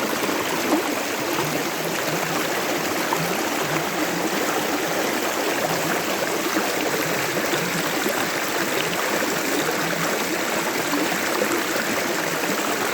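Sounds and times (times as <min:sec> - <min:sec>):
creek water running over rocks: 0:00.0 - 0:12.9.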